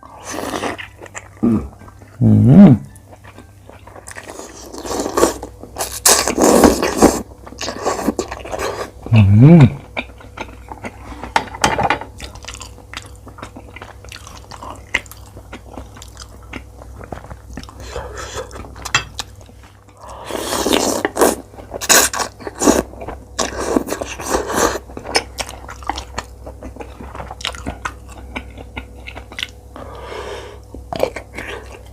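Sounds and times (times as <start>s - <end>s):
chewing and crunching food: 0.0s - 2.2s, 2.9s - 9.2s, 9.8s - 31.9s.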